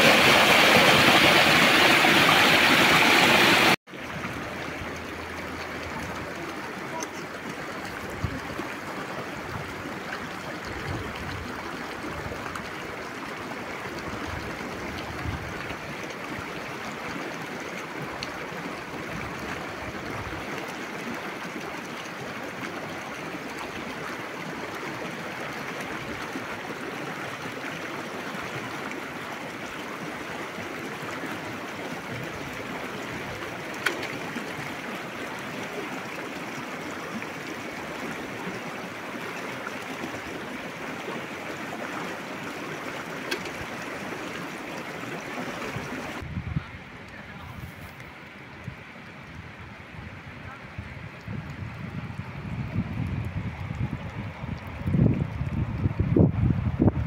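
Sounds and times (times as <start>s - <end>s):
river water rushing: 0.0s - 47.2s.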